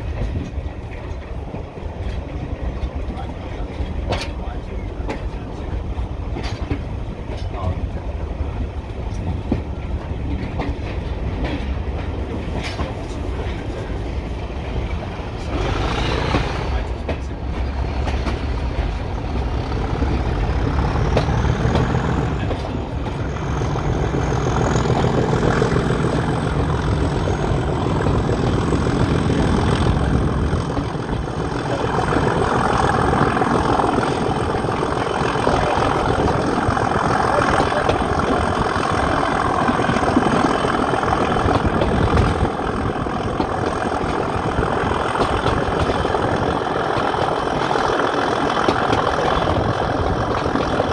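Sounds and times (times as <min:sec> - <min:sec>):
diesel locomotive engine throbbing: 0:00.0 - 0:50.9.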